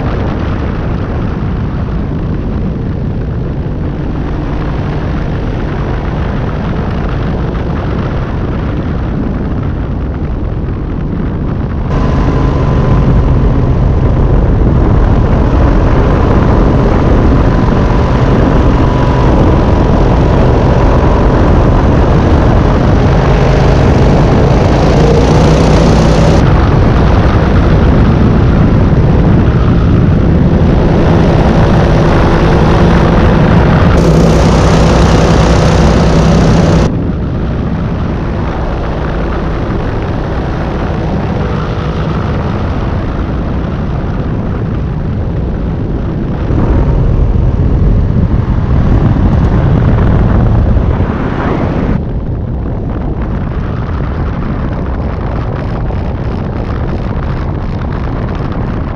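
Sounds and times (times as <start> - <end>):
engine and propeller drone: 0.0 - 58.9.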